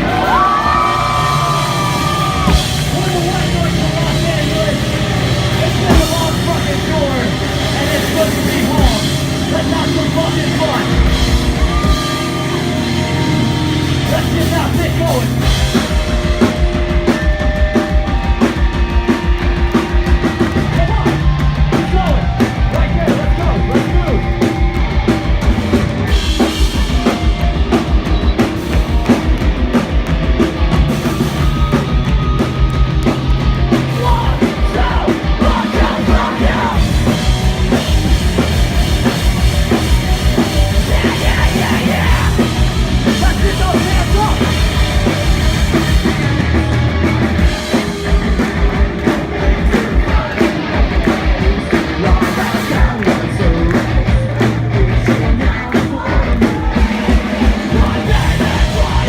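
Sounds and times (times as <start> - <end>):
distorted guitars: 0.0 - 59.0
pounding drums: 0.0 - 59.0
punk band playing live: 0.0 - 59.0.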